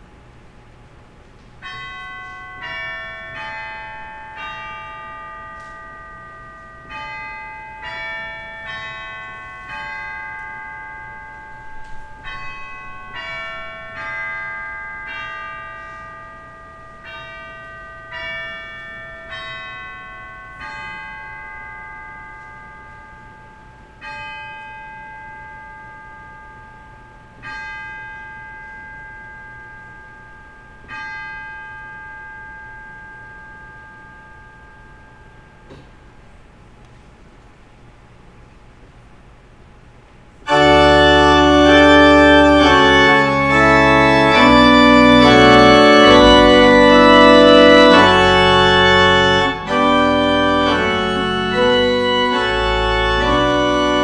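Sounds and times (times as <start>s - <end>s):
church bells playing a melody: 1.6s - 36.2s, 40.4s - 54.0s.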